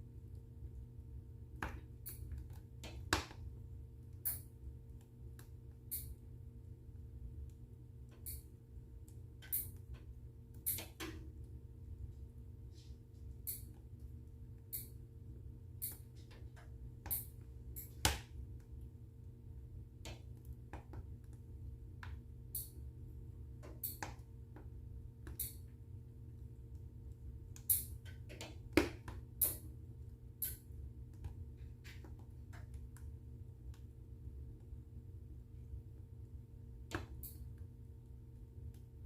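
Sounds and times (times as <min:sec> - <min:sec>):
low steady rumble: 0:00.0 - 0:39.0.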